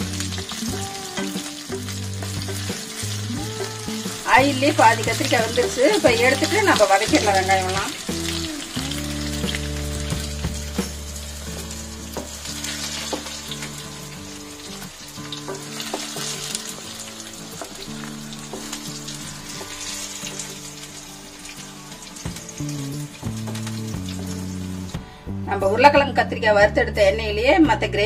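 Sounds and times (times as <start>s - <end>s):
vegetables sizzling in hot oil: 0.0s - 25.0s.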